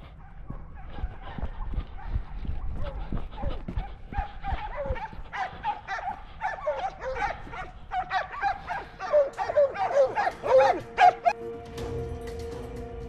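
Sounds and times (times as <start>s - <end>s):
hunting dogs baying: 0.0s - 11.4s.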